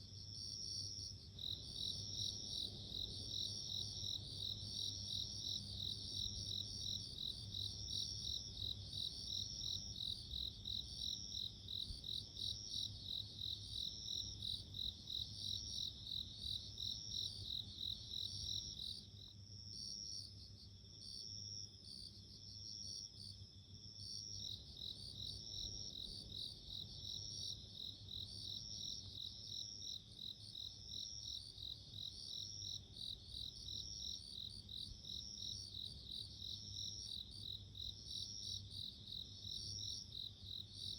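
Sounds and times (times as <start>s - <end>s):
crickets chirping: 0.1s - 40.9s.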